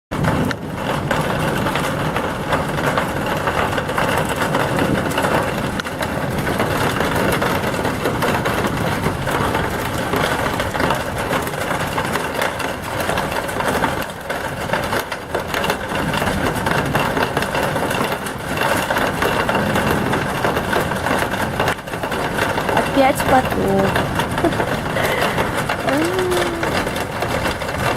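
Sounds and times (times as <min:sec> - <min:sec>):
heavy rain downpour: 0:00.1 - 0:27.9.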